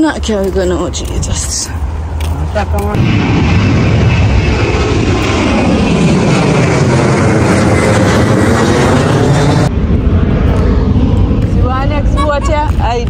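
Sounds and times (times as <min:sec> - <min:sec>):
jet airliner roaring overhead: 0:01.8 - 0:13.0.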